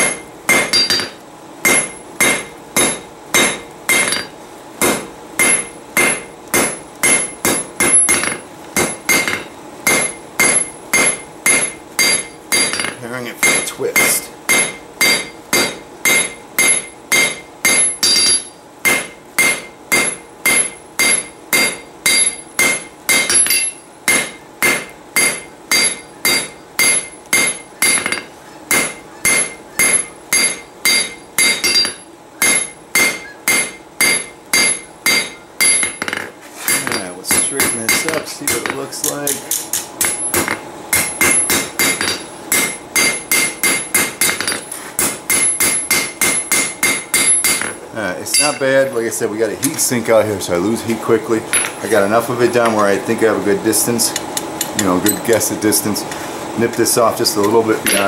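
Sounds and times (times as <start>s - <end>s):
hammer striking steel on anvil: 0.0s - 48.9s, 57.4s - 58.0s.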